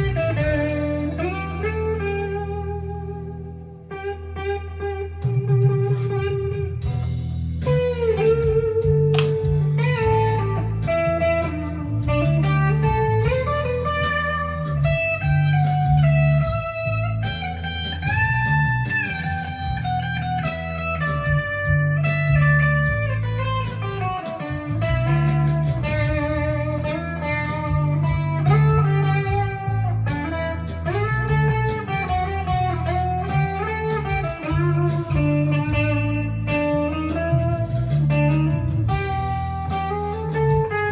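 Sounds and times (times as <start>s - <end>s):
fuzz electric guitar lead: 0.0s - 40.9s.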